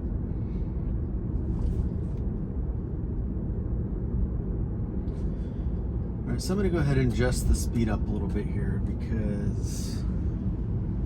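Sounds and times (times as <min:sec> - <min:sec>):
road and tyre rumble in car cabin: 0:00.0 - 0:11.0.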